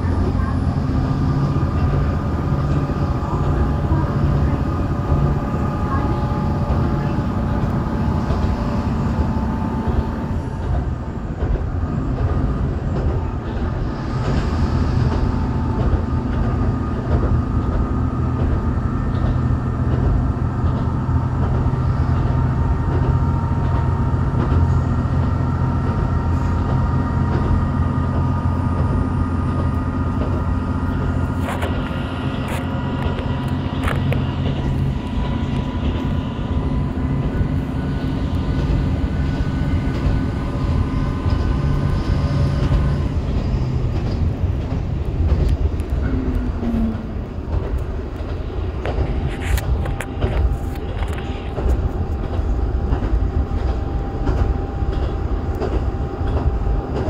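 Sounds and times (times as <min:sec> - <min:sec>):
railcar engine drone: 0:00.0 - 0:57.0
wheel and rail noise: 0:00.0 - 0:57.0.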